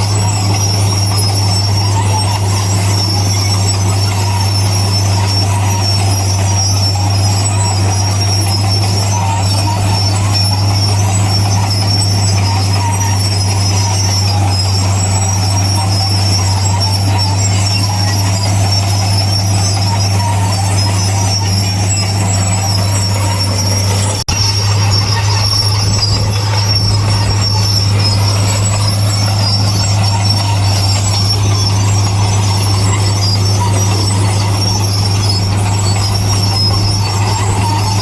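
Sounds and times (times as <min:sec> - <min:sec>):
diesel machinery droning: 0:00.0 - 0:38.0
high metallic squeal: 0:00.0 - 0:38.0.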